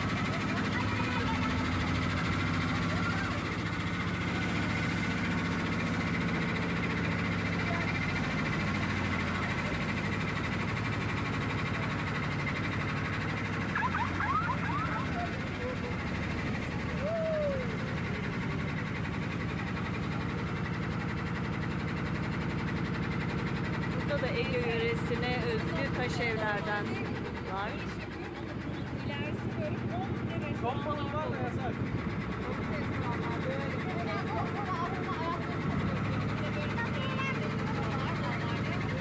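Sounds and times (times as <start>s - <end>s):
boat motor humming: 0.0s - 39.0s.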